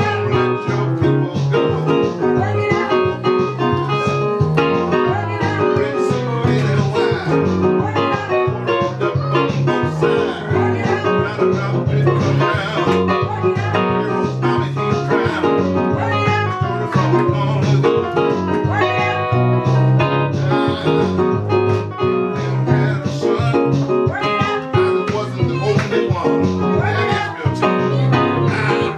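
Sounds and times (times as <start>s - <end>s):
bass line: 0.0s - 28.9s.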